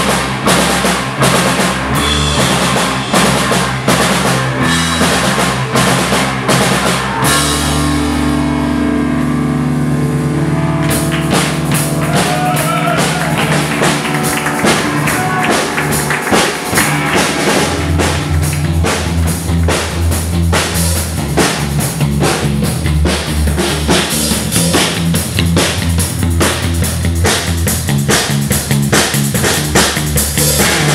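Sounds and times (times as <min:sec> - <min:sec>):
drum kit beat: 0:00.0 - 0:08.4, 0:10.8 - 0:30.9
bass notes: 0:00.0 - 0:30.9
live rock band playing: 0:00.0 - 0:30.9.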